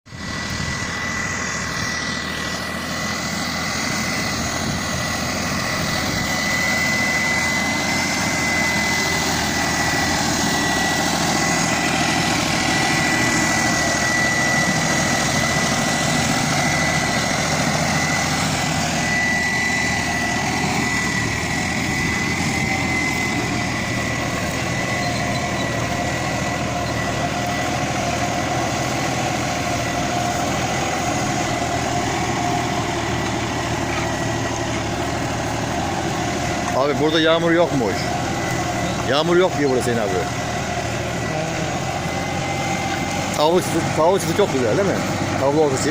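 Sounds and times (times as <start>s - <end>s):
tractor diesel engine running: 0.0s - 45.9s
high whine: 0.1s - 45.9s.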